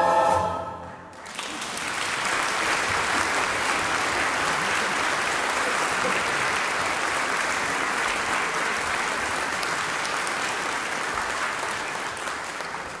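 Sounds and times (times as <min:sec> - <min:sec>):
audience applauding: 0:01.1 - 0:13.0.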